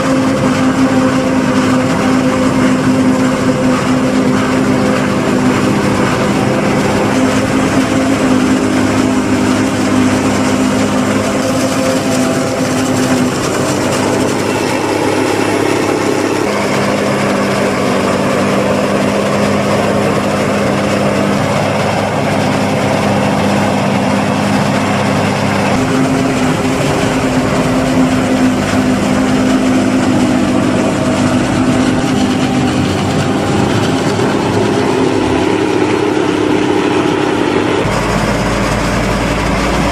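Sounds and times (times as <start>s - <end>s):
forage harvester chopping: 0.0s - 39.9s
tractor engines running: 0.0s - 39.9s.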